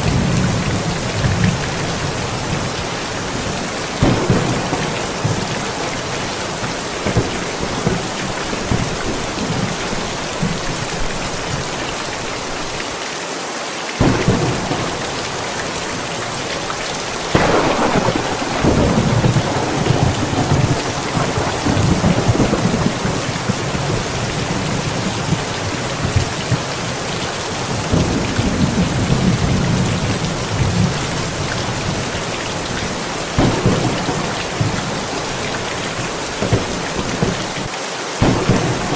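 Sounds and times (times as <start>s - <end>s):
thunder rolling: 0.0s - 12.7s, 14.0s - 38.9s
heavy rain: 0.0s - 38.9s.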